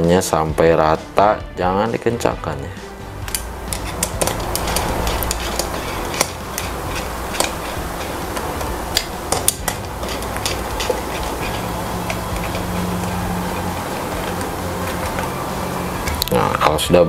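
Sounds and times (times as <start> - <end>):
low hum: 2.8 - 17.0.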